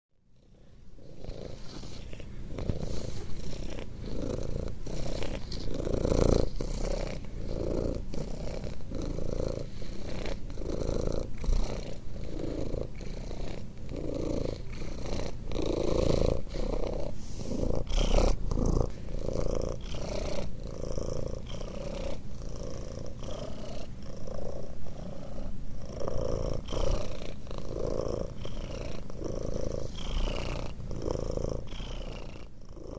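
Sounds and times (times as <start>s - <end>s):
cat purring: 0.2s - 32.9s.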